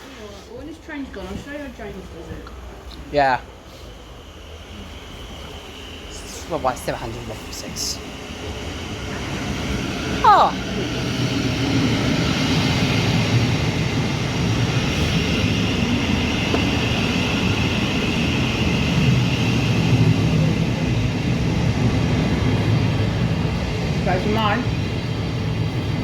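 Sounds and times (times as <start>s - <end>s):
train wheels rumbling: 0.0s - 26.0s.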